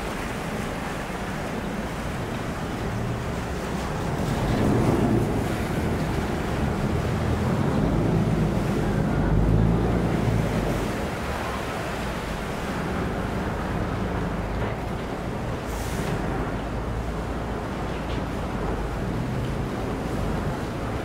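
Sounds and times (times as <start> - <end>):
boat engine rumbling: 0.0 - 21.0
water churning around hull: 0.0 - 21.0.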